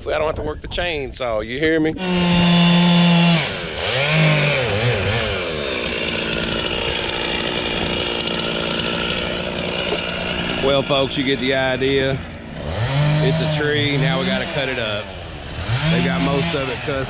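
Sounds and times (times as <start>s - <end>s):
chainsaw running: 2.0s - 17.0s.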